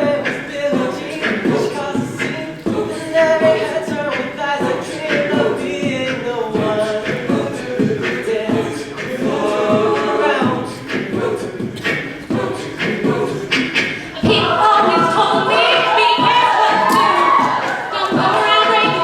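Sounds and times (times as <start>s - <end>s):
a cappella group singing in harmony: 0.0s - 19.0s
vocal percussion beat: 0.0s - 19.0s.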